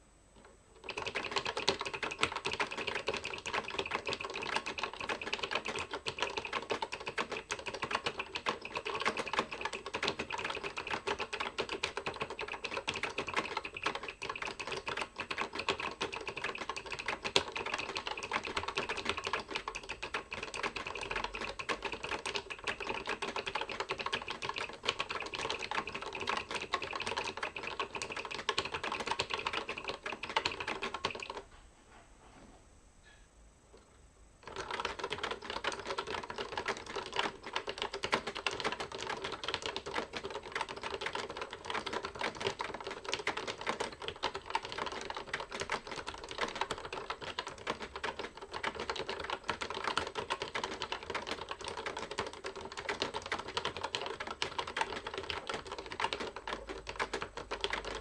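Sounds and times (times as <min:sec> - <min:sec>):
keyboard typing clicks: 0:00.4 - 0:31.5, 0:34.4 - 0:58.0.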